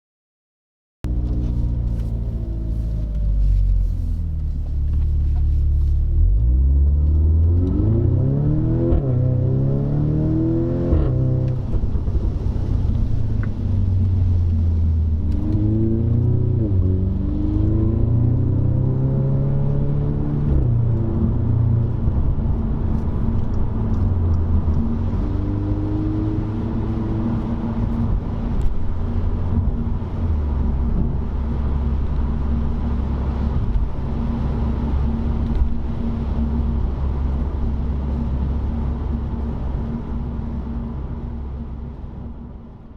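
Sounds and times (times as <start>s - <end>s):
car exhaust accelerating: 1.1s - 42.9s.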